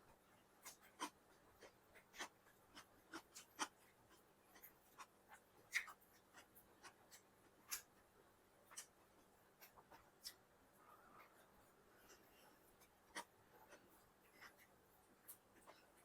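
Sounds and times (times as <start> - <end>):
chewing and mouth clicks: 0.6 - 8.0, 8.6 - 10.4, 12.0 - 16.0.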